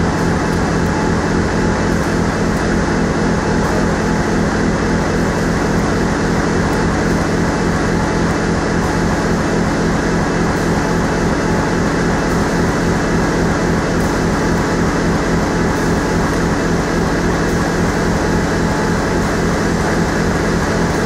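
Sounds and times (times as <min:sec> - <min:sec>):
production line machine noise: 0:00.0 - 0:21.0.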